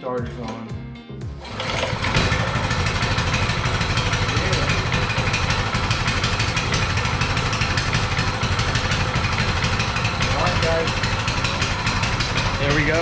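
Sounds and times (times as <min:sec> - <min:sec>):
mini bike engine running: 0:01.4 - 0:13.0.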